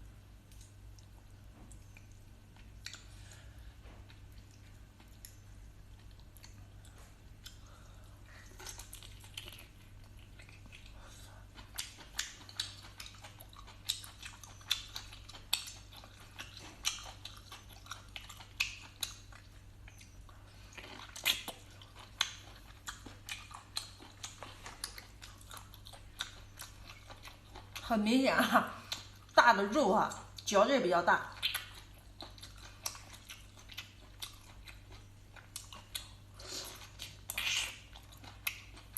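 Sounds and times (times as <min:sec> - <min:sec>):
chewing and smacking mouth sounds: 0:00.0 - 0:28.0, 0:28.7 - 0:29.4, 0:31.2 - 0:38.9
steady low hum: 0:00.0 - 0:38.9.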